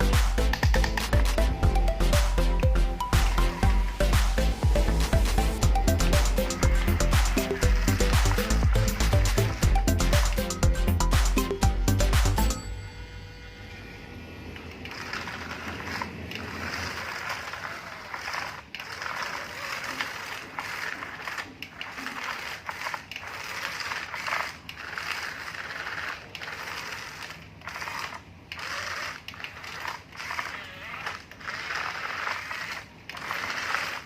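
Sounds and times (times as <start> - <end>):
small gear motors grinding: 0.0 - 34.0.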